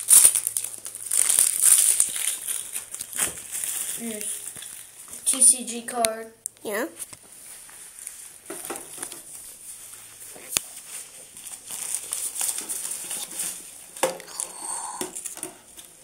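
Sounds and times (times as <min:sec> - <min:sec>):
foil wrapper crinkling: 0:00.0 - 0:05.0, 0:07.5 - 0:16.0.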